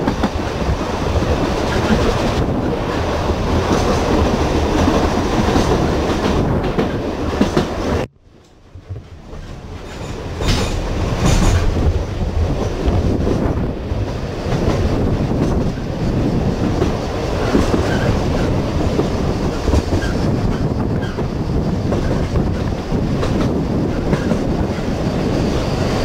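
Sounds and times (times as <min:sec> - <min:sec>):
railway car rumbling on rails: 0:00.0 - 0:26.0
train wheel clacks: 0:00.0 - 0:26.0.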